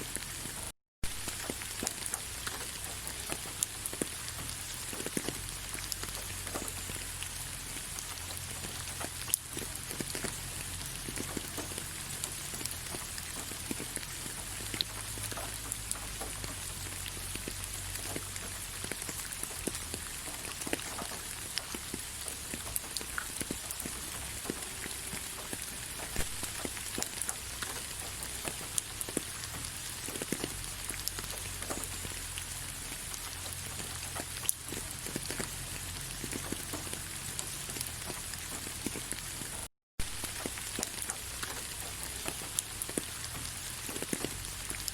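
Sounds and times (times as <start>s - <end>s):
rain falling on leaves: 0.0s - 44.9s.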